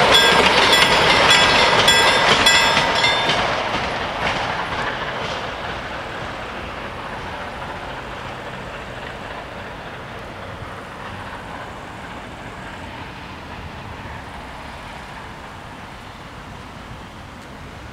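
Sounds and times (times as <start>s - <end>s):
steam train moving along track: 0.0s - 17.9s.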